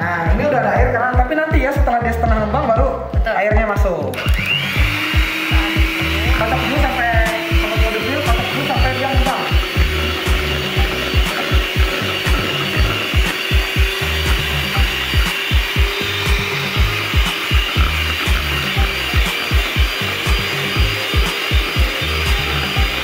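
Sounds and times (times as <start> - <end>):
background music with steady beat: 0.0 - 23.0
electric hand mixer whipping cream: 4.1 - 23.0.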